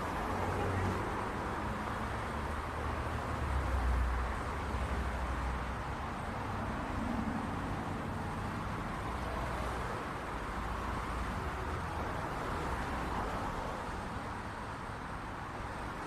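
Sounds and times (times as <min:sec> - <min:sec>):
passing cars: 0:00.0 - 0:16.0.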